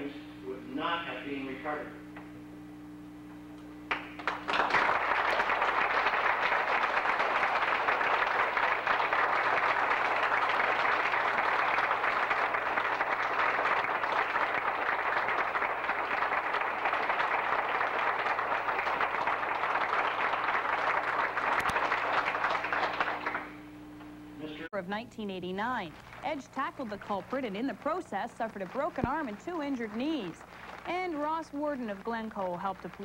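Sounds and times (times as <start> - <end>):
audience applauding: 3.9 - 23.6, 26.0 - 33.0.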